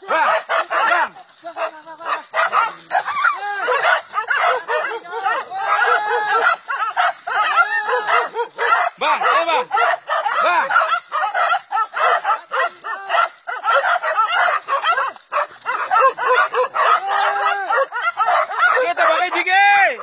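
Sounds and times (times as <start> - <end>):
dogs barking and yelping: 0.0 - 20.0.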